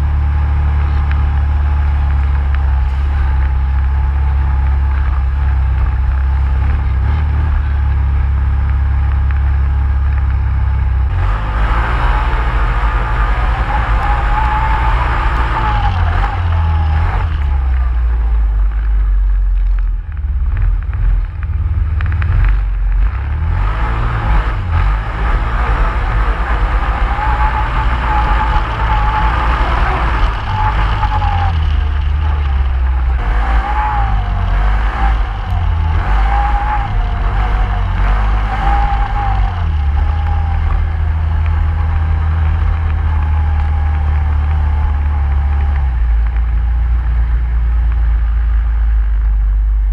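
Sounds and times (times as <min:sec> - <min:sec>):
vehicle engine rumbling: 0:00.0 - 0:49.9.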